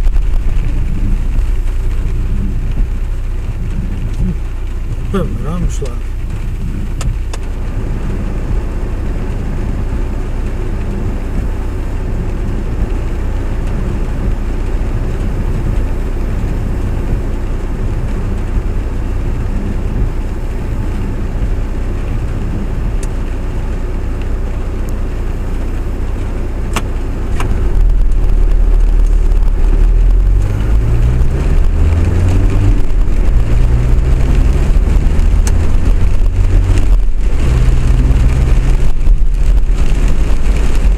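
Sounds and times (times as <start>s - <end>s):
vehicle running rumble: 0.0s - 40.9s.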